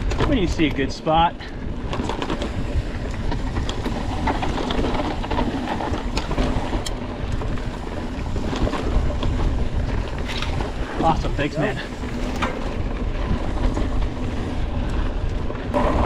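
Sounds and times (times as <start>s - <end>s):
bike clicks and rattles: 0.0s - 16.0s
wind rushing over microphone: 0.0s - 16.0s.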